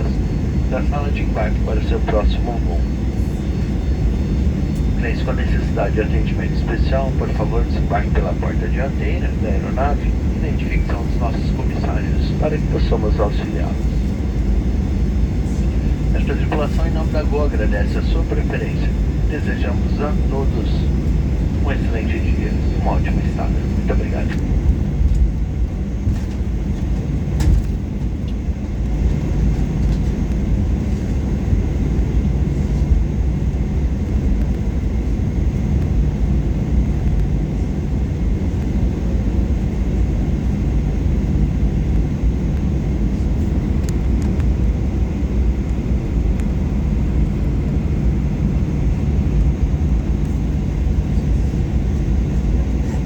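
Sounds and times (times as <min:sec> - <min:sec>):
jet engines idling in cabin: 0:00.0 - 0:53.0.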